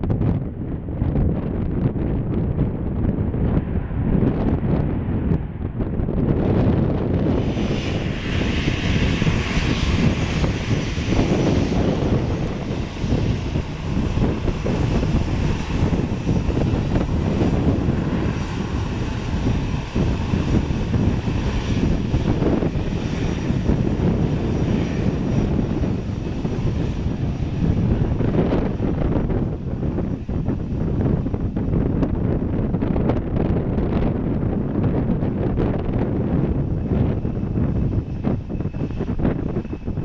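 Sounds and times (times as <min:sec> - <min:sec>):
jet engines rumbling: 0:00.0 - 0:40.0
faint high engine whine: 0:06.6 - 0:40.0.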